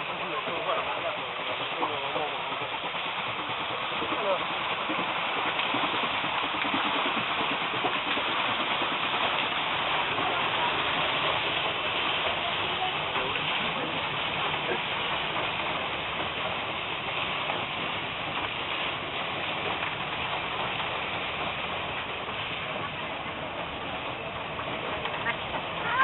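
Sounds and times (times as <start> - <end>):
water splashing off waterwheel: 0.0 - 26.0.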